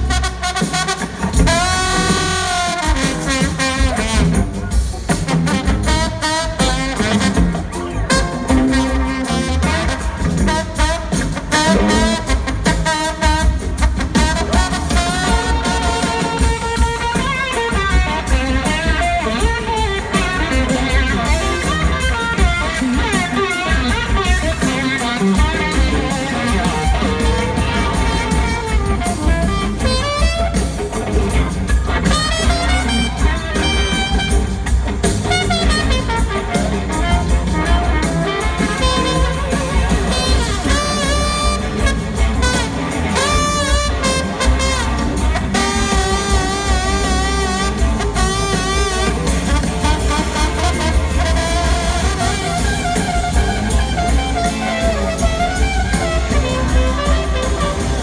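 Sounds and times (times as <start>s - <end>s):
bass and drums: 0.0s - 58.0s
electric guitar: 0.0s - 58.0s
horns playing: 0.0s - 58.0s.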